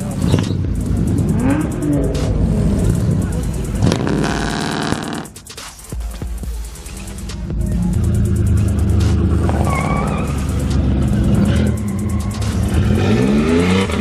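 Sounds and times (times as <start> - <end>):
car engine revving: 0.0 - 5.5, 7.1 - 14.0.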